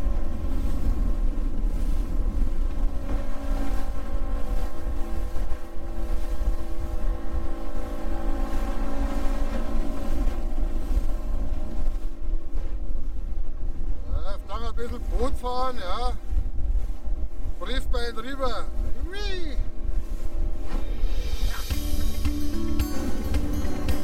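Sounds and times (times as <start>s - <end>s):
outboard motor running steadily: 0.0s - 24.0s
wind buffeting the microphone: 0.0s - 24.0s.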